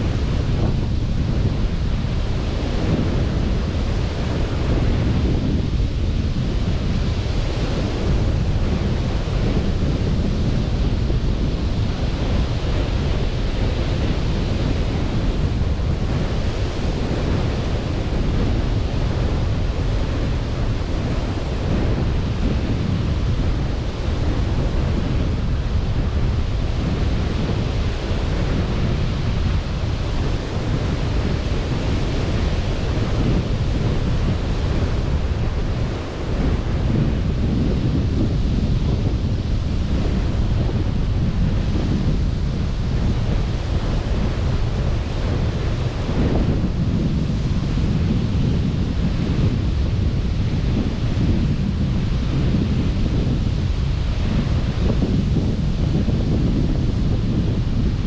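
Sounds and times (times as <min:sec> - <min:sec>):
sea surf washing onto beach: 0:00.0 - 0:58.0
wind buffeting microphone: 0:00.0 - 0:58.0.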